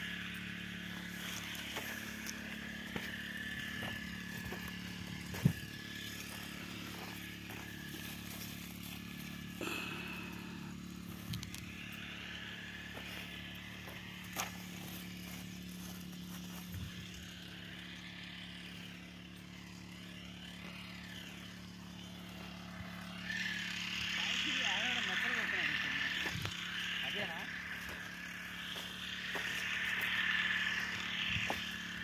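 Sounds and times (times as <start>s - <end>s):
faint high whine: 0.0s - 32.0s
motor humming: 0.0s - 32.0s.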